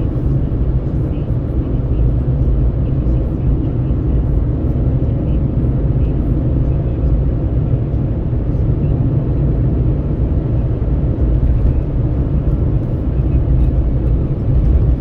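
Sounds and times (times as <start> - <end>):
tyre and engine rumble: 0.0 - 15.0.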